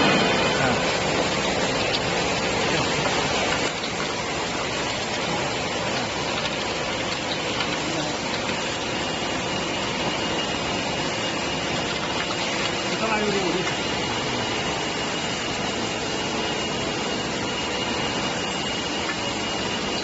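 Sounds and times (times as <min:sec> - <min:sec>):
bottle washing machine hissing: 0:00.0 - 0:20.0.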